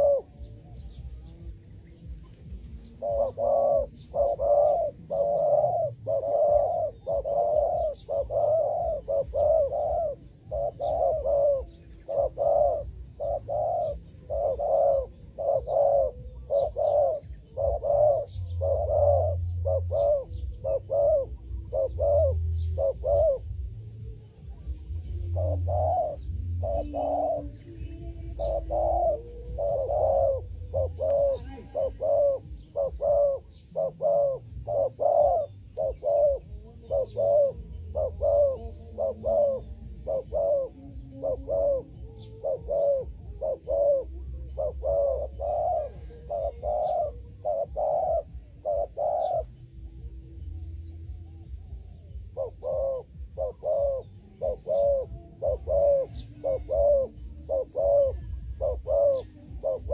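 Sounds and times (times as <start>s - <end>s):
doves cooing: 0.0s - 59.9s
small birds chirping: 0.0s - 59.9s.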